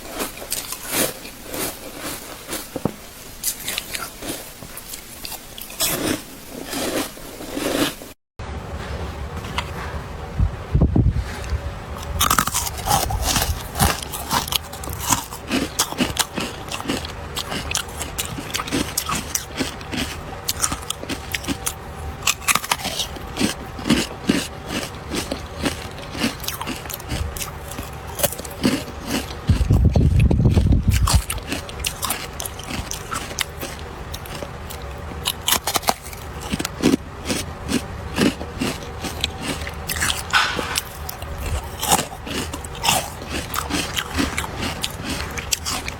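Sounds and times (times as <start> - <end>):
ice being chewed and crunched: 0.0 - 8.2, 11.4 - 45.9.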